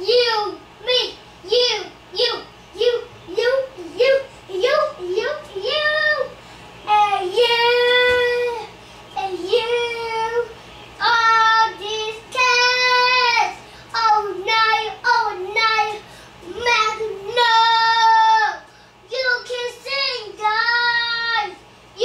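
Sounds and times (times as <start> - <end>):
young child singing: 0.0 - 22.0.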